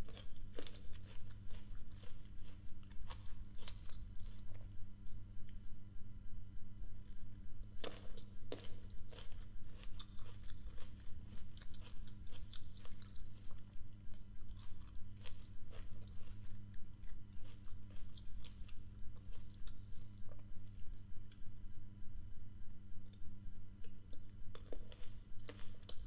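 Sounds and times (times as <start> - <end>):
chewing grapes: 0.0 - 5.8, 6.9 - 21.6, 23.0 - 26.0
low steady hum: 0.0 - 26.0.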